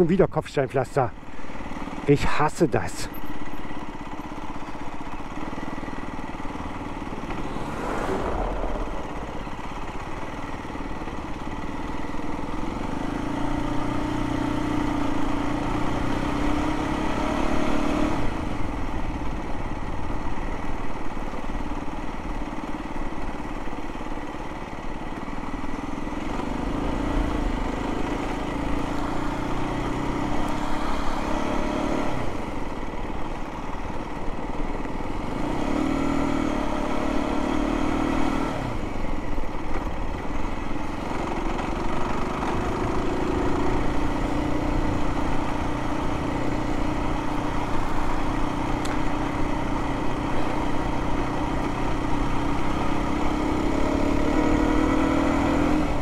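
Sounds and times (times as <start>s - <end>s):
motorcycle engine: 1.1s - 56.0s.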